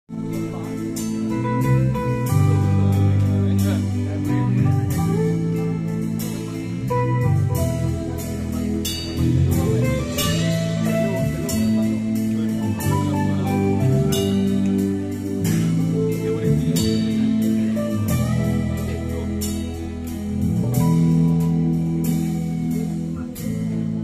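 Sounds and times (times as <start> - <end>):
steady drum beat: 0.1 - 24.0
string orchestra chords: 0.1 - 24.0.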